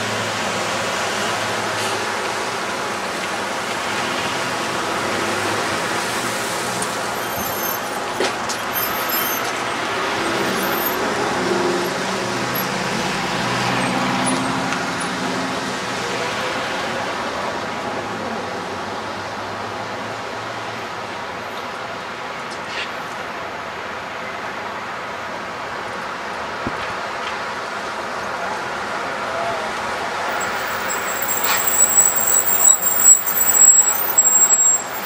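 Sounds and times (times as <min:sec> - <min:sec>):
tyres hissing on wet road: 0:00.0 - 0:35.0.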